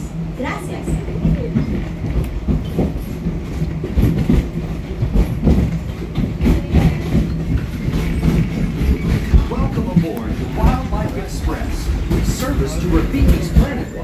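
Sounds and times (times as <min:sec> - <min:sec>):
train rumble and hum: 0:00.0 - 0:14.0
wheels clacking and knocking: 0:00.8 - 0:14.0.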